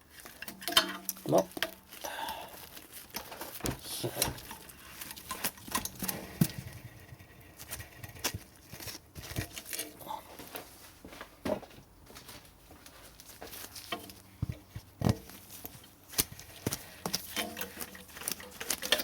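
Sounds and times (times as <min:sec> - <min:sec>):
hands handling parts: 0:00.0 - 0:19.0.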